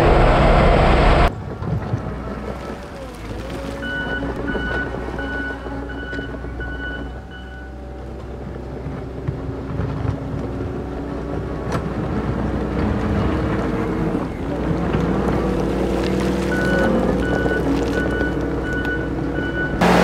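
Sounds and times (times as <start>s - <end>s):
track loader engine under load: 0.0s - 20.0s.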